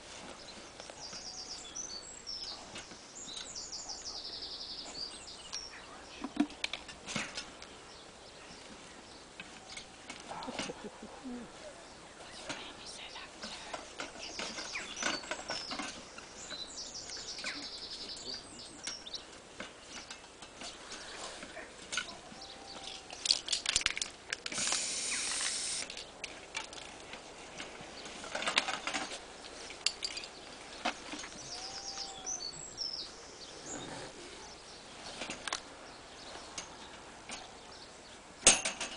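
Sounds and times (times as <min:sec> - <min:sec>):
birds chirping: 0:00.0 - 0:38.4.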